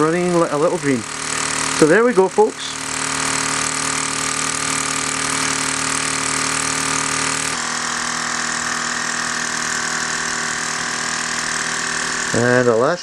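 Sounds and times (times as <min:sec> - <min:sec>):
toy steam engine running: 0:00.0 - 0:13.0.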